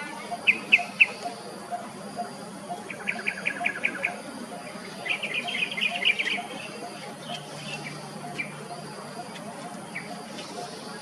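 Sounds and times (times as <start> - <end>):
bird calling low tuk notes: 0.0 - 11.0.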